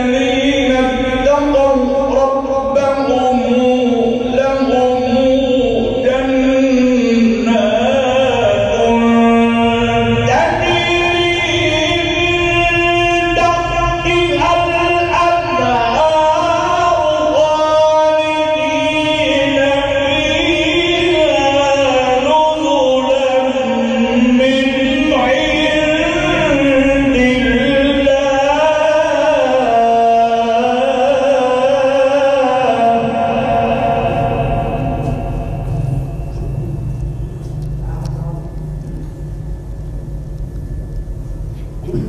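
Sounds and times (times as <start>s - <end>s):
person chanting melodically: 0.0s - 39.9s.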